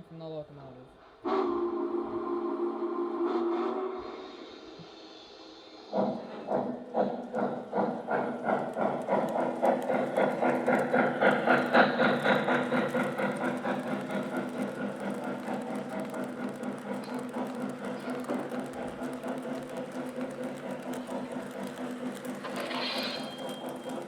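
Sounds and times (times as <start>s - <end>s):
model train electronic running sounds: 1.3s - 24.0s.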